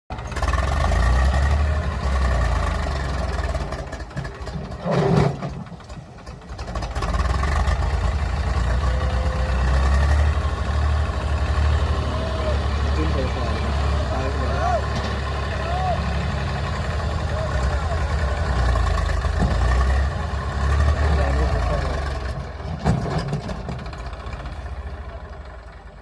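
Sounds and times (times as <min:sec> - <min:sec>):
tractor diesel engine running hard: 0:00.1 - 0:26.0.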